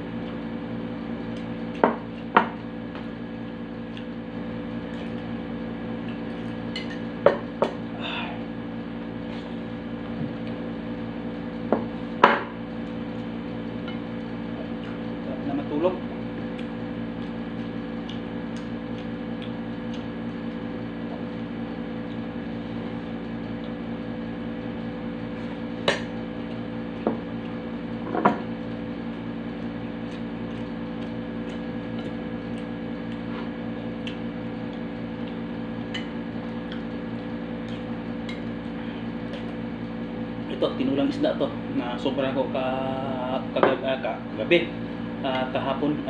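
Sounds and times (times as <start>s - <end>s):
steady appliance hum: 0.0s - 46.0s.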